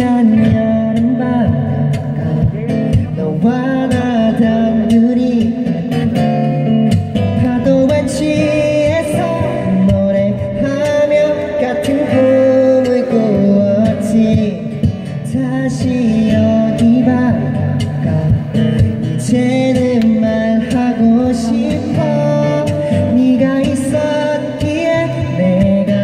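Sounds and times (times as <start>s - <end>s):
person singing into a microphone: 0.0s - 26.0s
strummed acoustic guitars: 0.0s - 26.0s.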